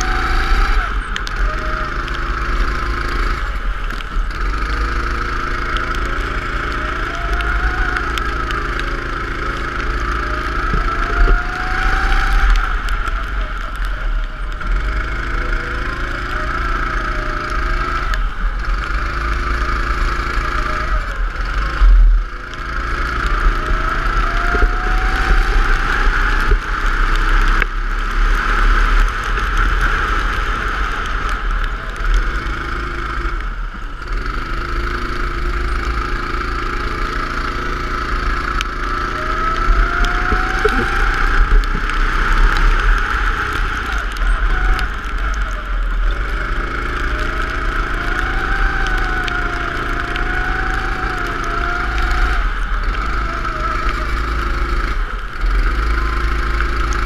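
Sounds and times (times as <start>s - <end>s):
go-kart engine accelerating: 0.0s - 57.0s
hiss and rumble: 0.0s - 57.0s.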